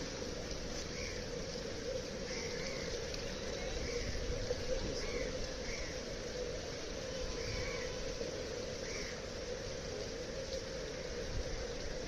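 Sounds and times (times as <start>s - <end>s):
flooded street outdoor noise: 0.0s - 12.0s.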